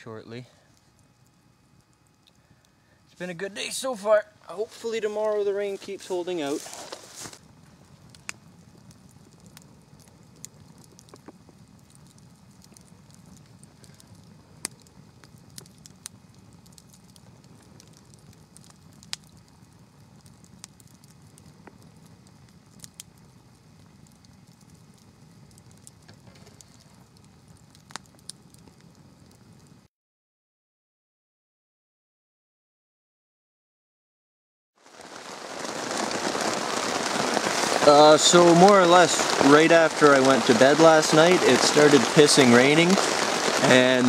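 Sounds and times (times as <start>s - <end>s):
campfire crackling: 0.0s - 29.9s, 34.8s - 44.0s.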